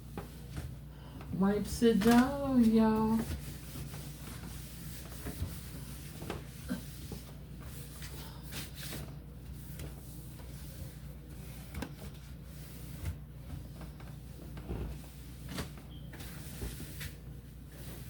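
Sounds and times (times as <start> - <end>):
cloth wiping refrigerator: 0.0 - 18.0.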